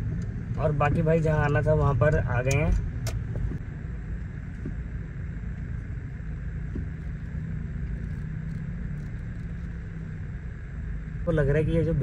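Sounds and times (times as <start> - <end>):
engine and tyre rumble: 0.0 - 12.0
faint hum: 0.0 - 12.0.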